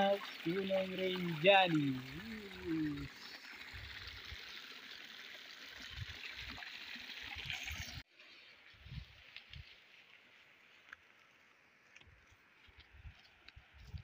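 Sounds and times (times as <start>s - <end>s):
water trickling over rock: 0.0s - 14.0s.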